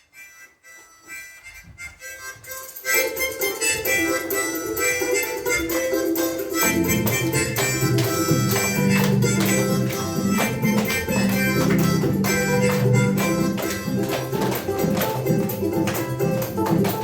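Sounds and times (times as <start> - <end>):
plucked strings music: 3.3 - 17.0.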